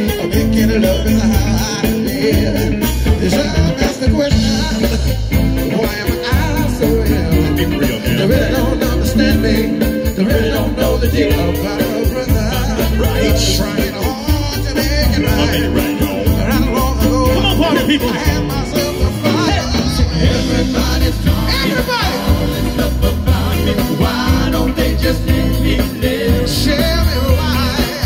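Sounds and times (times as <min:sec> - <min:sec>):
drum kit beat: 0:00.0 - 0:28.0
funk band playing: 0:00.0 - 0:28.0
person singing: 0:00.0 - 0:28.0.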